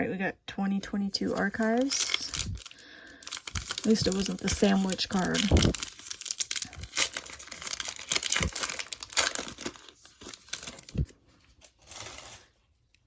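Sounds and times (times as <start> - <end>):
plastic wrapper tearing and crinkling: 1.3 - 12.6.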